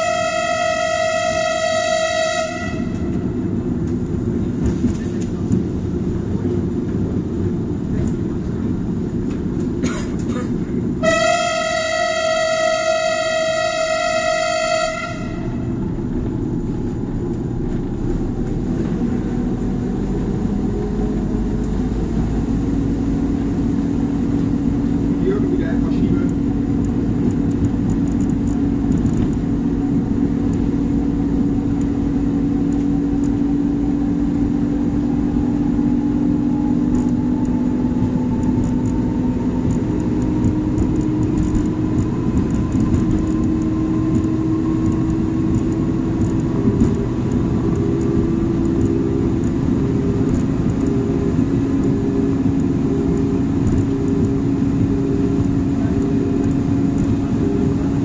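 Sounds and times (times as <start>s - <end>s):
train engine drone with whine: 0.0s - 58.0s.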